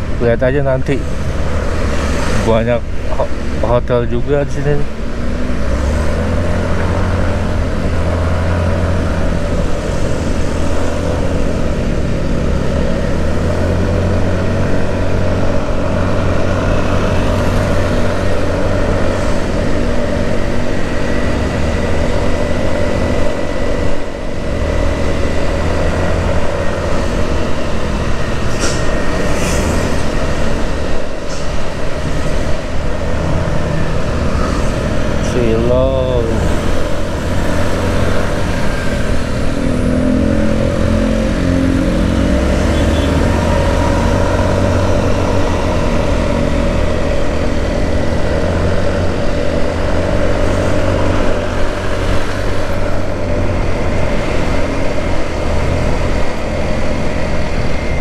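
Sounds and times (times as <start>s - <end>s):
road and wind noise: 0.0s - 58.0s
vehicle engine hum: 0.0s - 58.0s.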